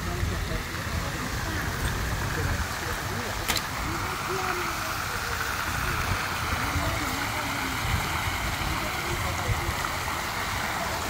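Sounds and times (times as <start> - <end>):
faint voices: 0.0 - 11.0
fountain jets splashing: 0.0 - 11.0.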